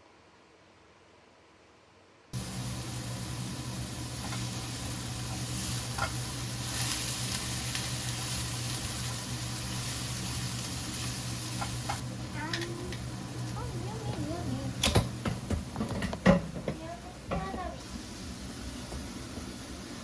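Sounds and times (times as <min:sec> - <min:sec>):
food sizzling in a frying pan: 0:02.4 - 0:15.8, 0:16.4 - 0:20.0.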